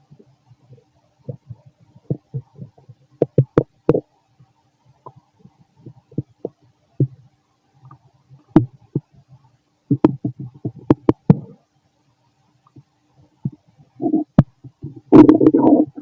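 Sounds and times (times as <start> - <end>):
stomach gurgling and popping: 0.0 - 11.7, 12.6 - 16.0.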